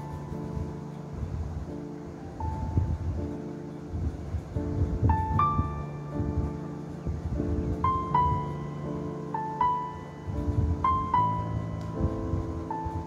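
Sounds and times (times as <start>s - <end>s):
slow melody over held chords: 0.0s - 13.0s.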